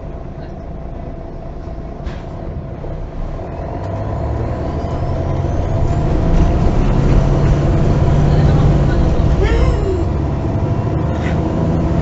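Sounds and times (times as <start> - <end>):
bus engine accelerating: 0.0 - 12.0.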